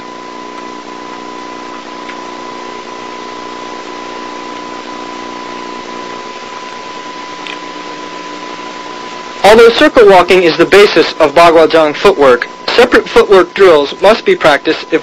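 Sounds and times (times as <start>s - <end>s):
videotape hiss: 0.0s - 15.0s.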